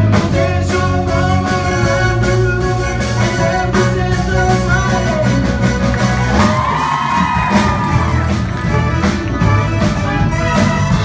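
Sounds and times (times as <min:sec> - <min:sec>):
live band playing upbeat music: 0:00.0 - 0:11.0
steady drum beat: 0:00.0 - 0:11.0.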